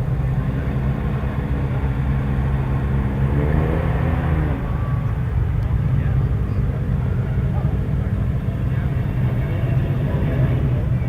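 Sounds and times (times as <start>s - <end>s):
car engine pulling away: 0.0s - 11.0s.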